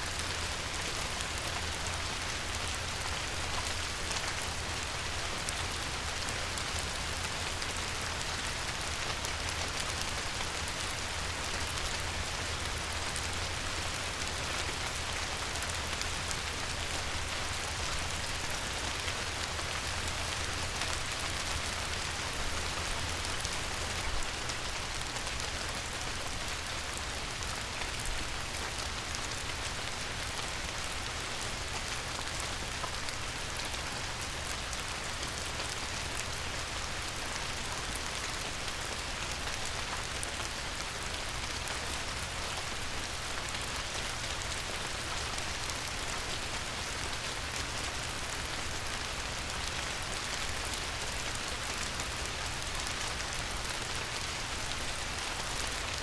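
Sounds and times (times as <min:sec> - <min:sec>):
light rain on a river: 0:00.0 - 0:56.0.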